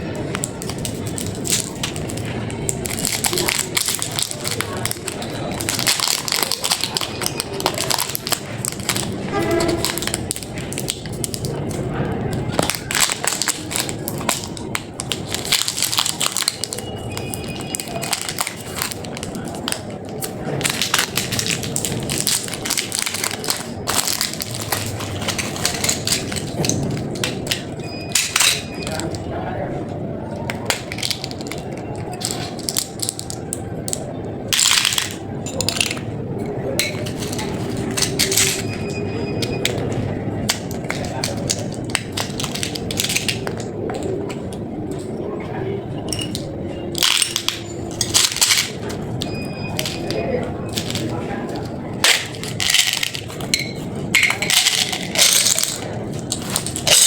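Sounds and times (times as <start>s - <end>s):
plastic wrappers crinkling: 0.0s - 29.3s, 30.3s - 36.0s, 36.7s - 45.2s, 46.1s - 57.0s
candy packaging crunching and crackling: 0.0s - 57.0s.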